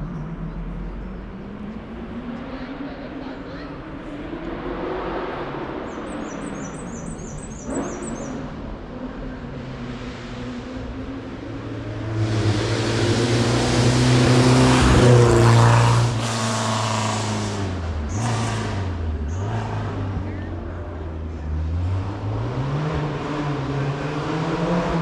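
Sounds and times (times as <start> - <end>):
race car engine accelerating: 0.0 - 25.0.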